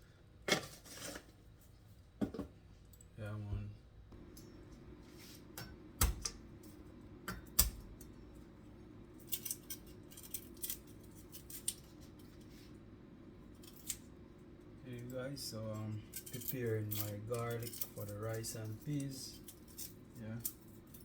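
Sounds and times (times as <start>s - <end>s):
steady low hum: 2.6s - 21.0s.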